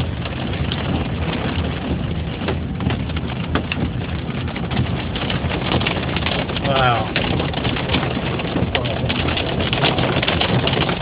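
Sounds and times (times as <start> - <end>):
car driving rumble: 0.0 - 11.0
rain pattering on car: 0.0 - 11.0
sharp taps on glass and roof: 0.7 - 11.0.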